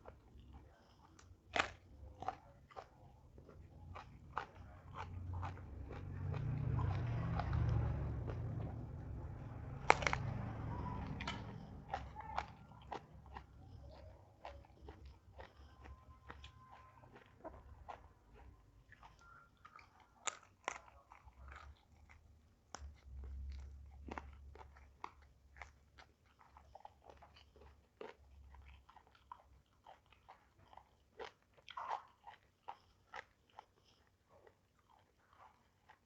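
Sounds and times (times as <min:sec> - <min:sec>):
person chewing and crunching food: 0:00.0 - 0:36.0.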